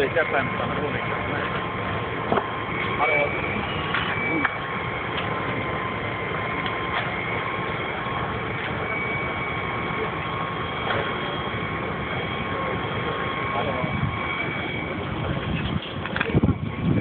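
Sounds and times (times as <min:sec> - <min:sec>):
fire popping: 0:00.0 - 0:17.0
large fire rushing: 0:00.0 - 0:17.0.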